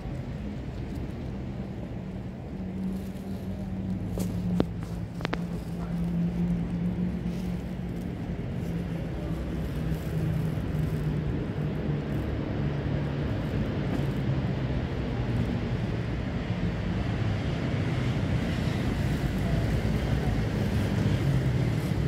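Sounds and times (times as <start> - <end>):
motor vehicles rumbling: 0.0 - 22.0.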